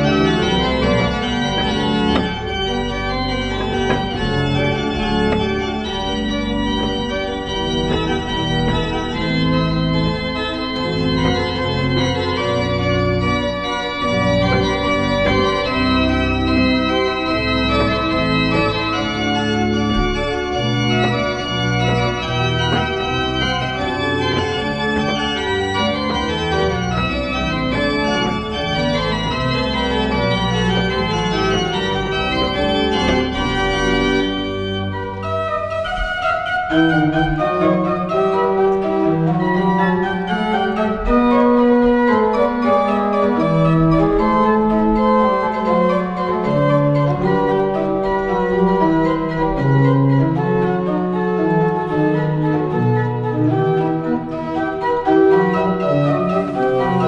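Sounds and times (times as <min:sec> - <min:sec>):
church pipe organ playing: 0:00.0 - 0:57.0.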